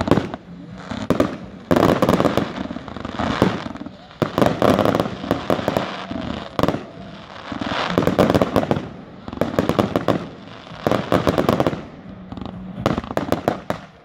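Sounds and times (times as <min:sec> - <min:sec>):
fireworks rapid shots and crackling: 0:00.0 - 0:14.0.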